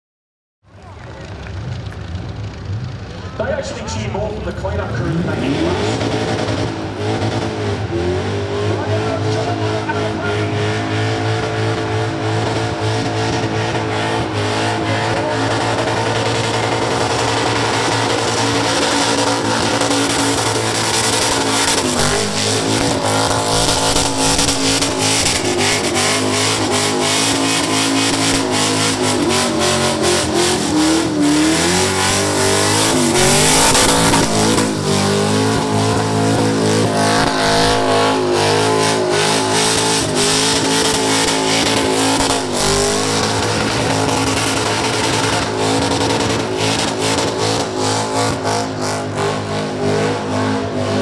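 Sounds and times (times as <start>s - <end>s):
spinning tyres rushing: 0.7s - 51.0s
car engine revving high: 3.3s - 51.0s.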